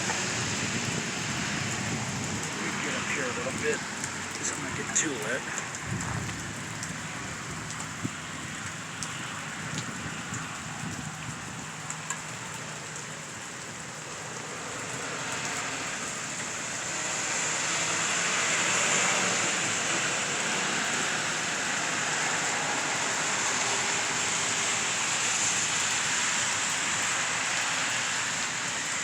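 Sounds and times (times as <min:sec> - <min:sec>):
steady rain falling: 0:00.0 - 0:29.0
tyres hissing on wet road: 0:00.0 - 0:29.0.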